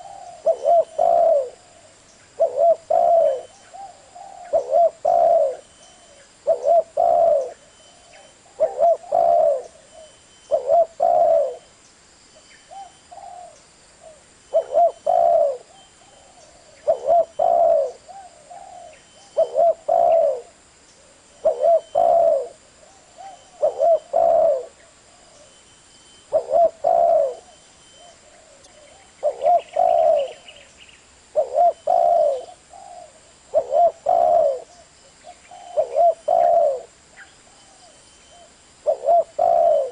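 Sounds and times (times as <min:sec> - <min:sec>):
dove cooing: 0:00.0 - 0:11.7, 0:12.7 - 0:25.5, 0:26.2 - 0:39.9.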